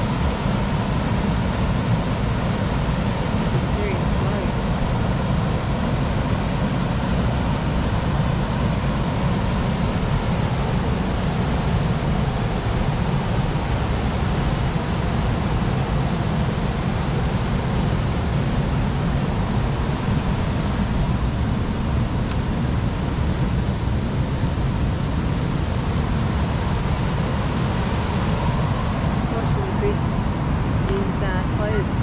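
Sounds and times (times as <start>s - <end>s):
vehicle rumble with hiss: 0.0s - 32.0s.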